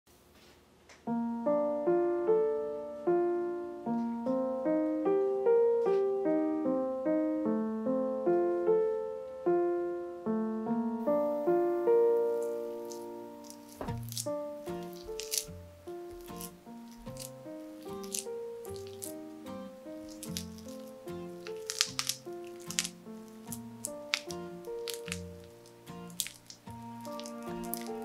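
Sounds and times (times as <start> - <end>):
gentle piano melody: 1.1 - 28.0.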